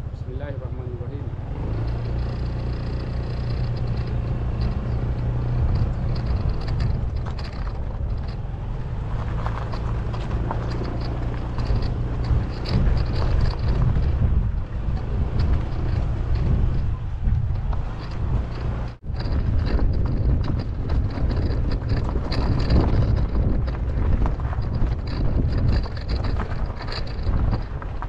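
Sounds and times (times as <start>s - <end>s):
scooter engine running: 0.0s - 28.0s
tyres crunching on gravel: 1.4s - 28.0s.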